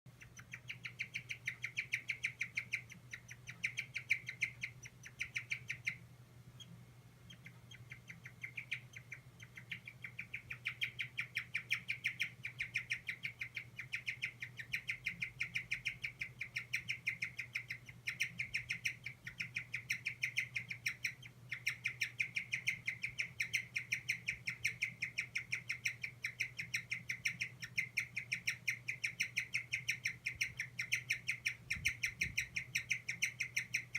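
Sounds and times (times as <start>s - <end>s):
guinea pig squeaking: 0.1s - 33.9s.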